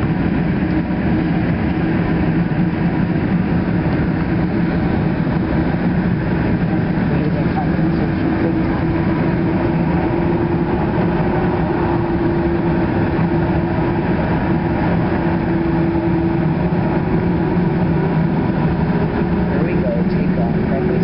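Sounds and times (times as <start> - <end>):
jet engines humming in cabin: 0.0 - 21.0
steady rush of noise: 0.0 - 21.0.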